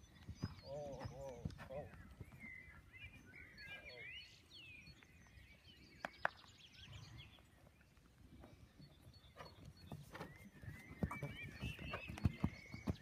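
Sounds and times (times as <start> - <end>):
faint birdsong: 0.0 - 13.0
outdoor background noise: 0.0 - 13.0.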